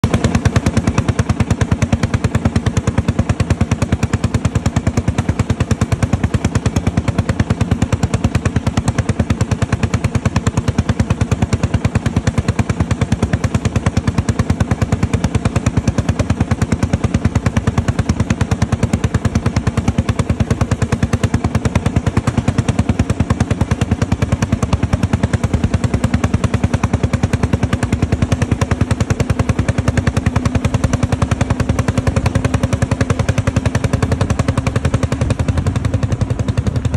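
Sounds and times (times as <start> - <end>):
tractor engine exhaust beats: 0.0 - 36.9.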